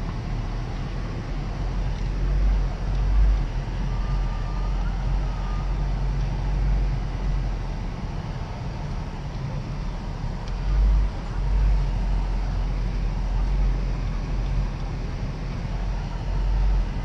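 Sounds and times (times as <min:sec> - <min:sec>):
engine and tyres rumbling on snow: 0:00.0 - 0:17.0.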